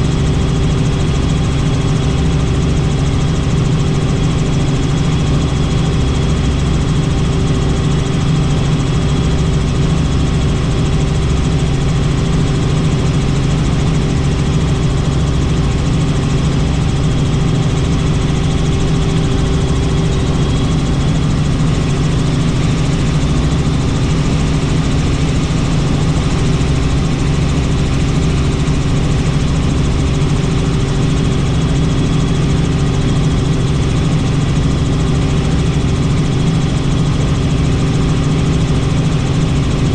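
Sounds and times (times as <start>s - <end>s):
helicopter drone in flight: 0.0s - 39.9s.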